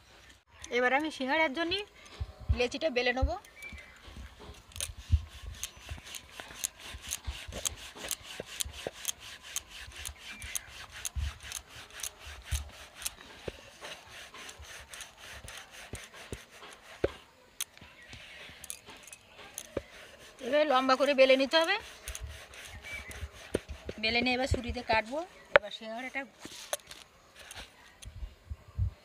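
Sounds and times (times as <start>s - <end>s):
rolling pin rolling dough: 3.6s - 27.8s.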